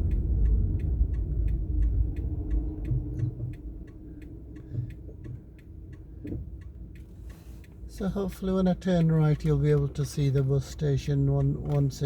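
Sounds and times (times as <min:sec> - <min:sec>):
car engine idling: 0:00.0 - 0:12.0
turn signal ticking: 0:00.0 - 0:12.0.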